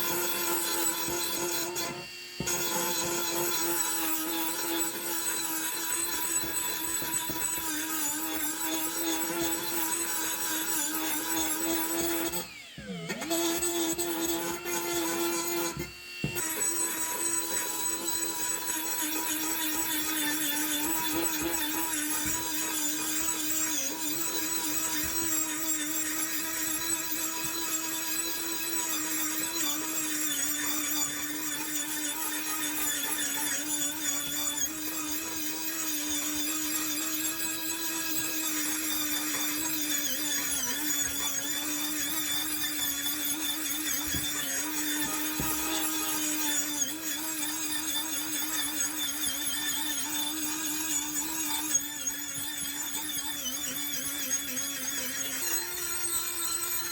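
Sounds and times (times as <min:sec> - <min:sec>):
electric power tool running: 0:00.0 - 0:56.9.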